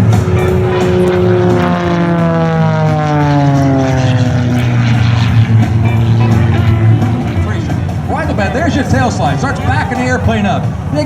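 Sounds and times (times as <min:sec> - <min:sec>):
propeller plane engine: 0:00.0 - 0:11.0.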